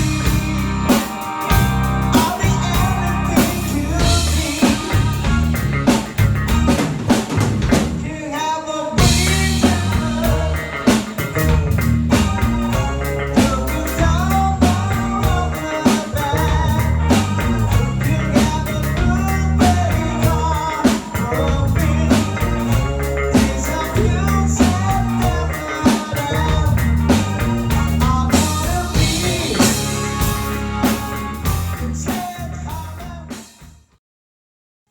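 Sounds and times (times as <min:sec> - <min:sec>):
person singing: 0:00.0 - 0:07.1, 0:08.0 - 0:33.6
rock band playing: 0:00.0 - 0:33.8.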